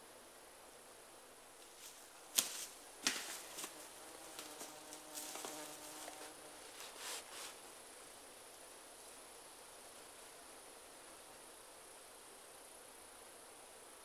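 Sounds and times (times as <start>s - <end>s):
flying insect buzzing: 0.7s - 14.0s.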